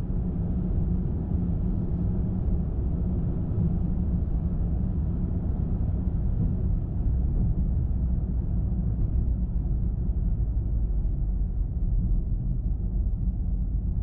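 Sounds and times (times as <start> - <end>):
car tyre and engine rumble: 0.0 - 14.0.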